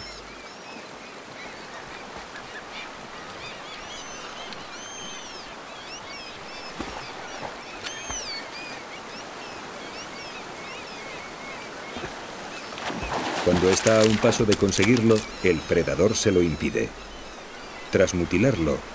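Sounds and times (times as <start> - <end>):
birds calling: 0.0 - 18.9
river water running: 0.0 - 18.9.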